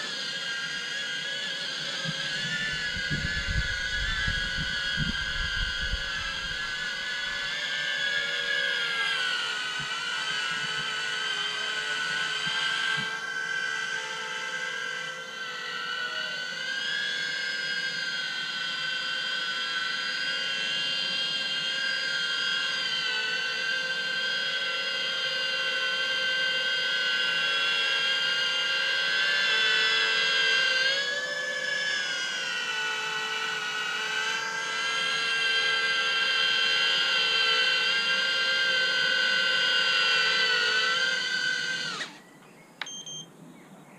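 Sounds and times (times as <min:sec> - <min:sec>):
drone motors whining: 0:00.0 - 0:43.3.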